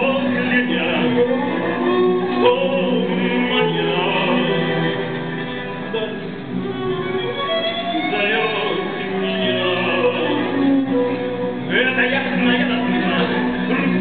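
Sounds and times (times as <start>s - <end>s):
steady musical accompaniment: 0.0s - 14.0s.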